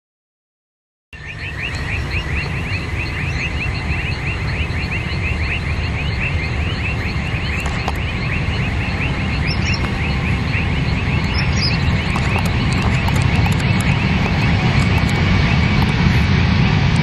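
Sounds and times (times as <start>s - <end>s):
high chirping: 1.2s - 16.1s
jet engines rumbling: 1.2s - 17.0s.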